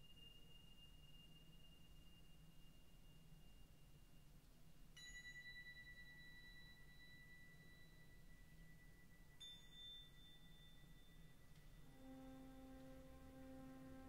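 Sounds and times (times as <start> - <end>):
faint sustained pure tones: 0.0 - 14.0.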